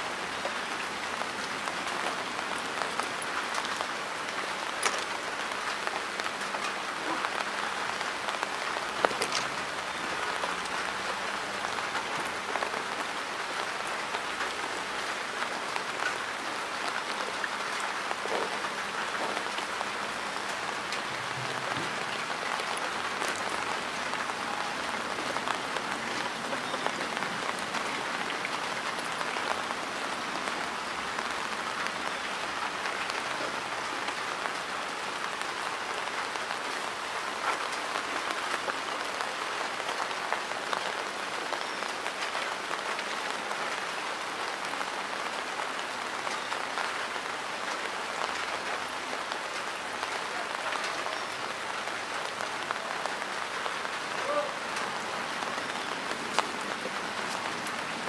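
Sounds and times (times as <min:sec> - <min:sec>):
rain on water and grass: 0:00.0 - 0:58.0.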